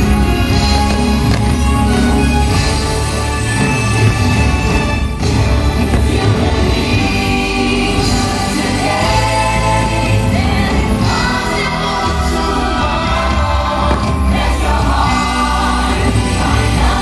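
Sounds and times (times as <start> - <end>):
music with singing voices: 0.0 - 17.0
steady bass: 0.0 - 17.0.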